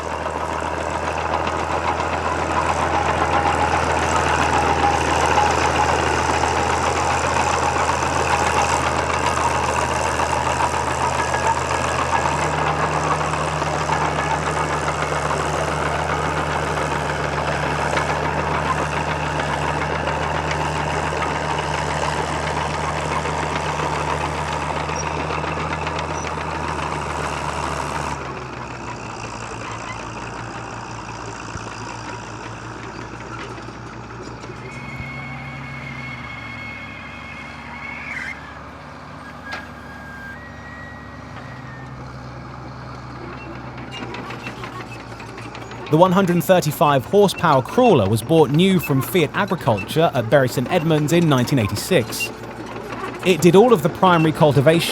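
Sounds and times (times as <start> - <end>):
diesel crawler engine under load: 0.0 - 54.9.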